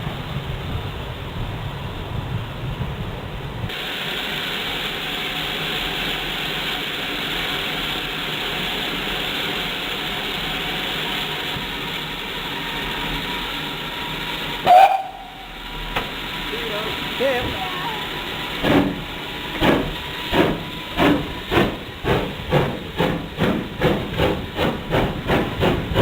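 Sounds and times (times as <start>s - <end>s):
train running rumble: 0.0s - 26.0s
steam locomotive hissing: 3.6s - 26.0s.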